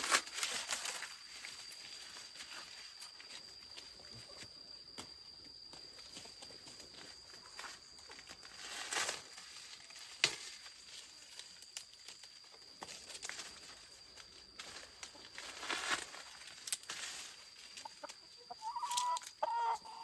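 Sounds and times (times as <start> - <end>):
dry corn husks rustling: 0.0 - 4.6, 5.8 - 19.4.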